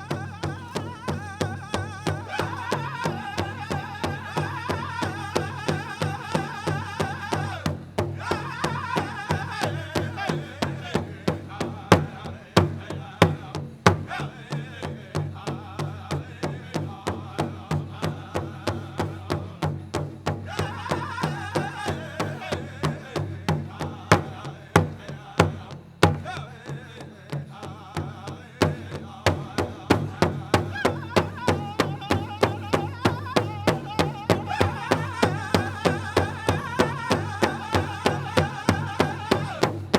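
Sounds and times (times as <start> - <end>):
big drum fast beat: 0.0 - 39.9
group singing: 0.0 - 39.9.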